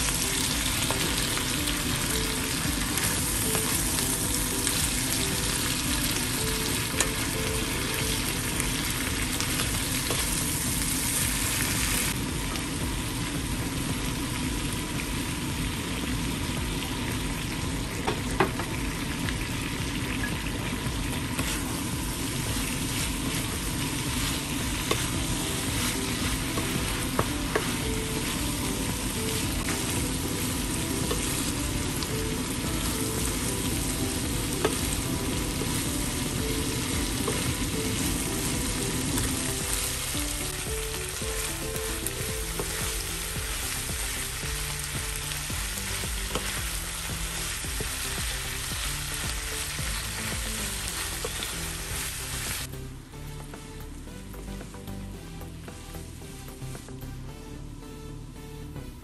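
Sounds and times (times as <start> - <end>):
meat sizzling in a frying pan: 0.0 - 52.7.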